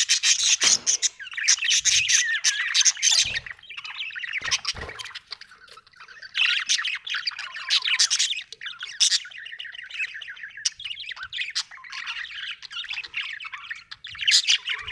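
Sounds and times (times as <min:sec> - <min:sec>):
budgerigars chattering and chirping: 0:00.0 - 0:14.9.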